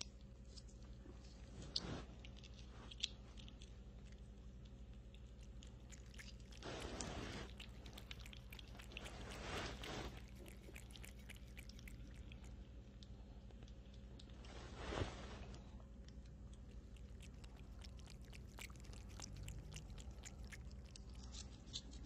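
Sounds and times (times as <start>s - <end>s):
kitten licking: 0.0s - 14.6s, 15.4s - 22.0s.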